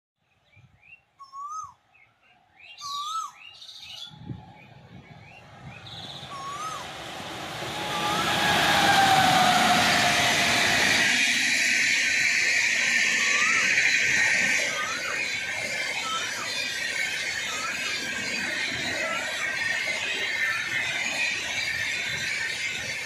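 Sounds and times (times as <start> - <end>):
birds whistling and chirping: 0.8 - 1.8, 2.6 - 8.2, 10.8 - 23.0
locomotive falling whine: 4.2 - 23.0
train wheels rushing on rails: 4.2 - 23.0.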